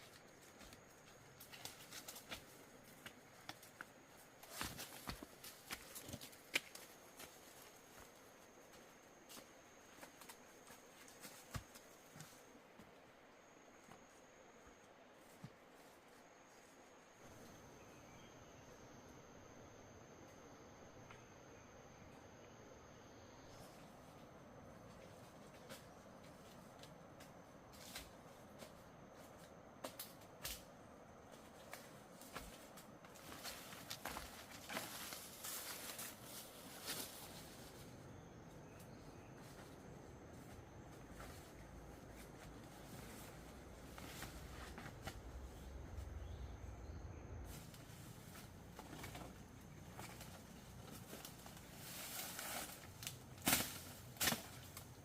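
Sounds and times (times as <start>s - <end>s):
low steady hiss: 0.0s - 55.0s
faint high whine: 6.7s - 55.0s.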